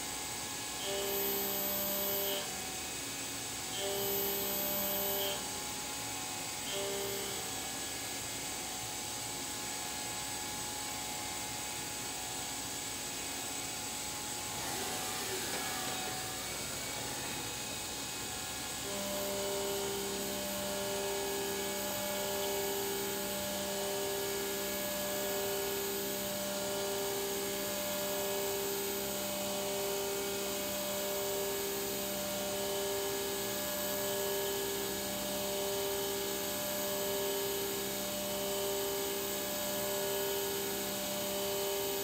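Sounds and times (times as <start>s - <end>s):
machine spindle whine: 0.0s - 42.0s.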